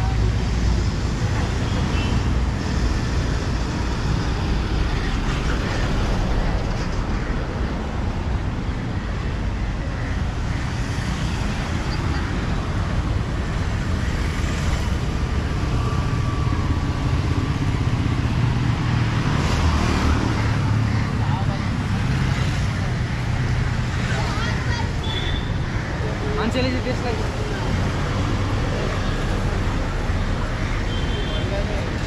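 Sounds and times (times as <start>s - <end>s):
city road traffic: 0.0s - 32.0s.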